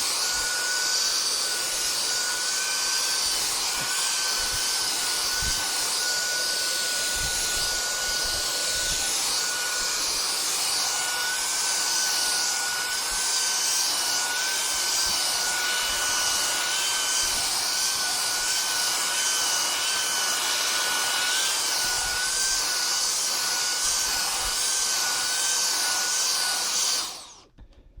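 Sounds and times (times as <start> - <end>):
vacuum cleaner running: 0.0 - 27.5.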